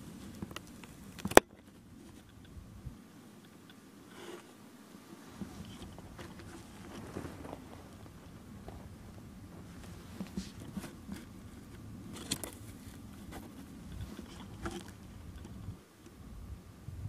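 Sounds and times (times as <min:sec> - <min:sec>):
handling clicks and rustles: 0:00.0 - 0:16.2.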